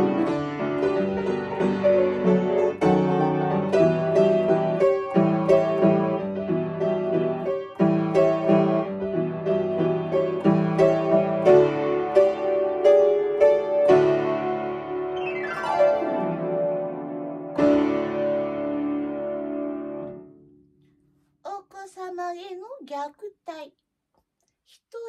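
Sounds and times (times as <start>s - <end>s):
upright piano melody: 0.0s - 20.4s.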